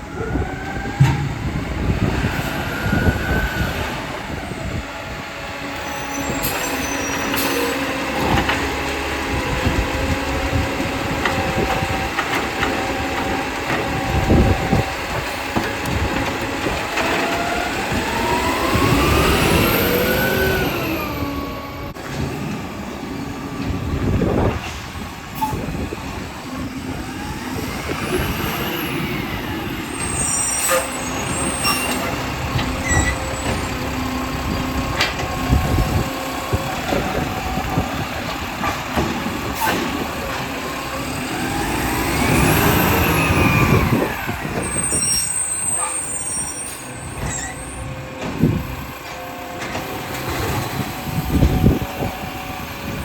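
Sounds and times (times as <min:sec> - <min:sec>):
garbage truck diesel engine revving: 0:00.0 - 0:46.2.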